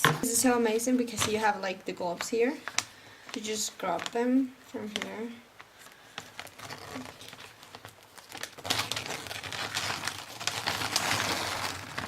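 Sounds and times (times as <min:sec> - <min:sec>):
plastic gloves crinkling: 0:00.0 - 0:12.0.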